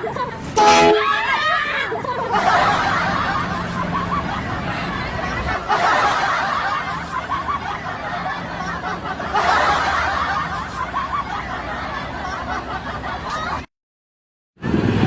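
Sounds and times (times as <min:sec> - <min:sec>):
people laughing and giggling: 0:00.0 - 0:13.7.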